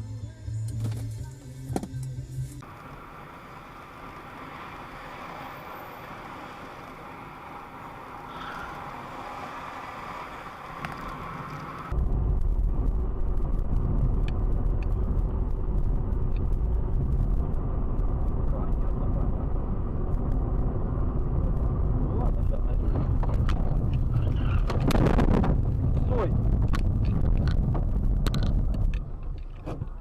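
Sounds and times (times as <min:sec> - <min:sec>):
car engine rumbling: 0:00.0 - 0:30.0
road and traffic noise: 0:00.0 - 0:30.0.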